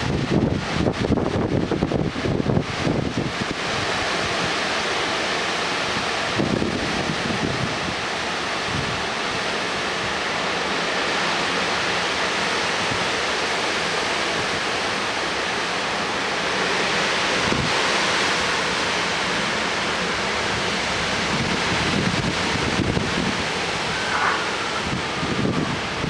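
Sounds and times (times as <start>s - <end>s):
storm winds rushing: 0.0s - 26.0s.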